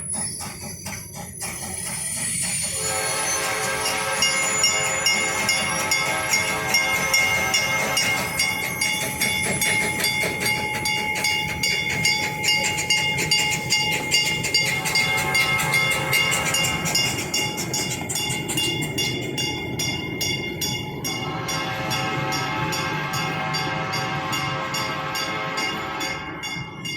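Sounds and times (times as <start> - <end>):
steady high tones: 0.0 - 26.9
train wheels clattering on rails: 0.0 - 26.9.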